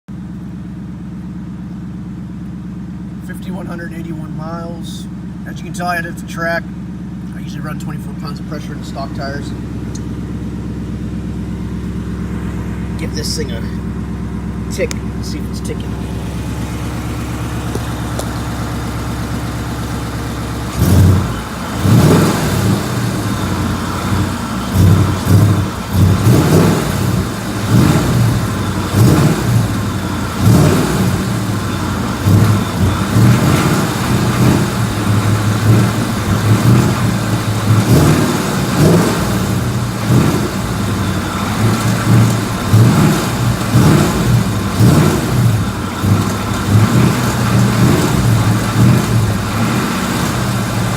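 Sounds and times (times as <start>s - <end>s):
car engine idling: 0.1s - 50.9s
car engine revving: 3.2s - 50.9s.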